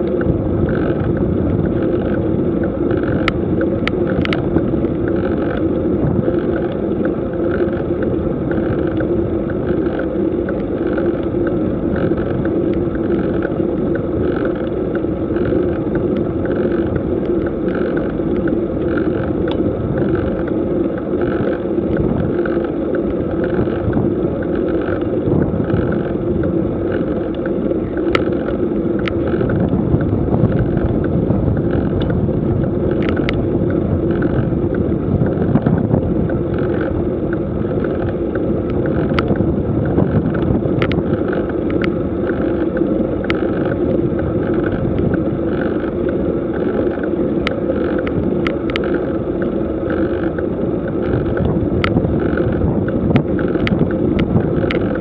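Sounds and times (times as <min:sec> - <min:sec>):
road noise: 0:00.0 - 0:55.0
rushing wind: 0:00.0 - 0:55.0.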